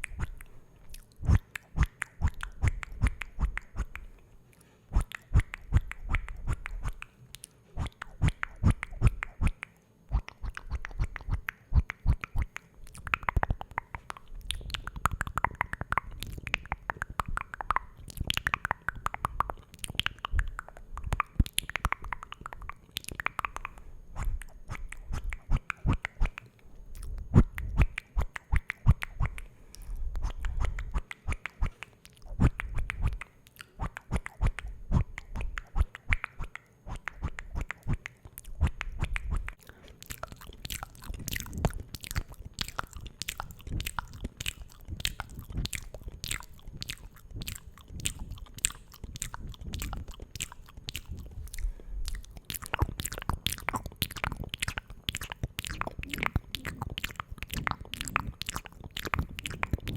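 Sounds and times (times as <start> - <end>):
wet mouth clicks and smacks: 0.0 - 59.9.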